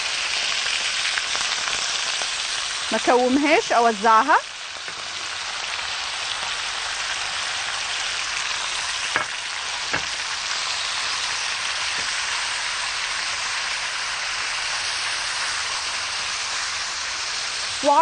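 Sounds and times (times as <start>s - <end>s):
meat sizzling in a wok: 0.0s - 18.0s.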